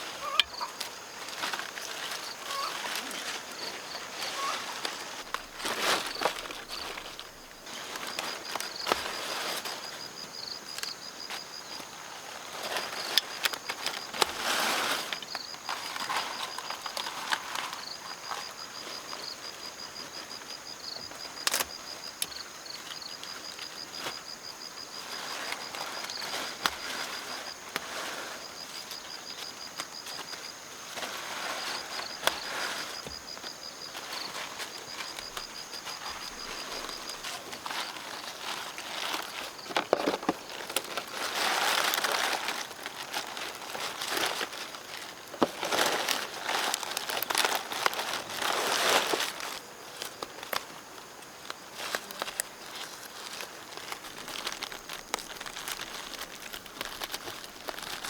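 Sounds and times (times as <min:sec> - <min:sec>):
rustling: 0:00.0 - 0:21.7, 0:22.3 - 0:58.0
insect chirping: 0:00.0 - 0:58.0.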